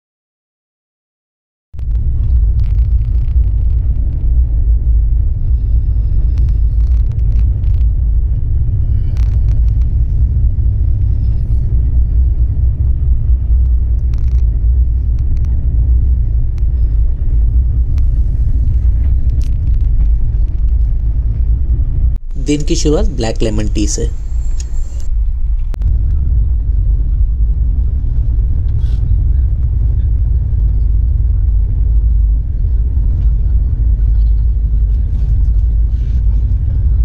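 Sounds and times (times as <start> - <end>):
train wheels rumbling on track: 1.8 - 37.0.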